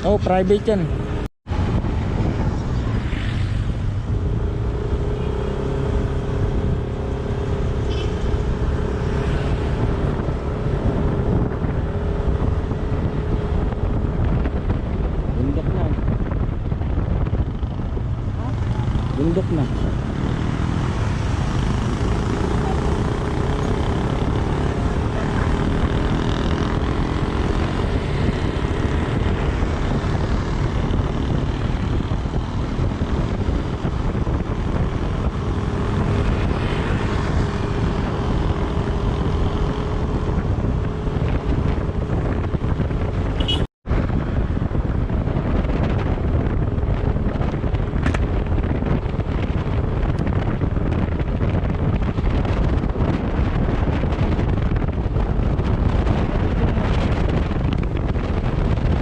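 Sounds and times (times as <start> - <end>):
road and wind noise: 0.0 - 59.0.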